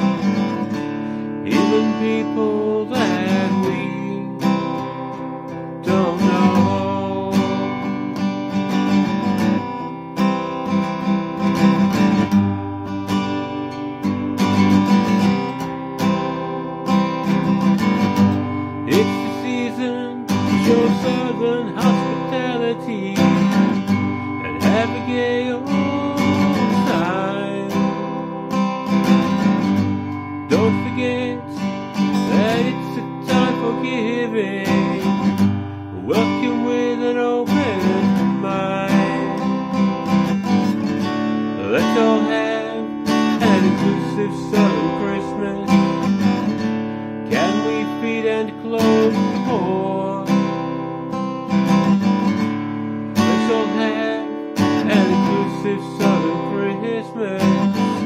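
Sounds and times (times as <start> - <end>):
man singing: 0.0 - 10.4, 17.4 - 58.0
acoustic guitar strumming: 0.0 - 58.0.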